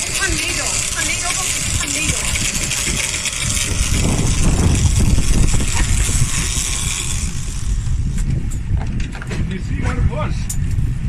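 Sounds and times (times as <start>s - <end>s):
motorboat engine running: 0.0s - 9.3s
wind and sea noise: 0.0s - 11.0s.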